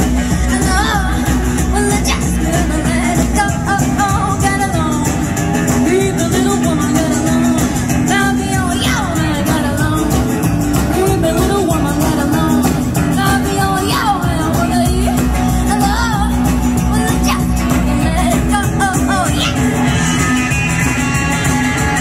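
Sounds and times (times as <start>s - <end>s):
woman singing: 0.0s - 20.2s
rockabilly band playing: 0.0s - 22.0s.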